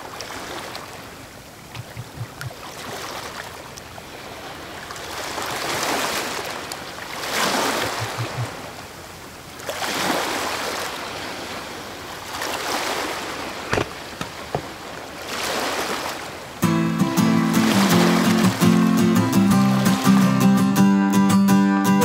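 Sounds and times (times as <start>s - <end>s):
underwater water rushing: 0.0s - 16.4s, 17.2s - 20.4s.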